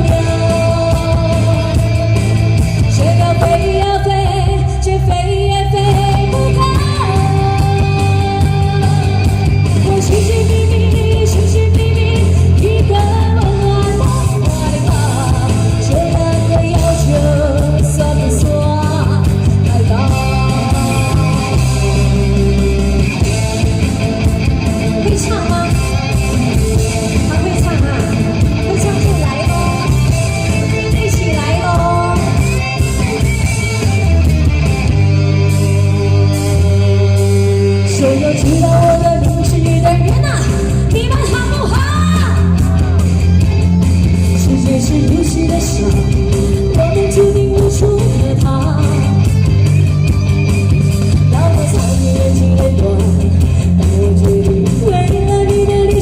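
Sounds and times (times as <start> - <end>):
pop rock band with electric guitar: 0.0 - 56.0.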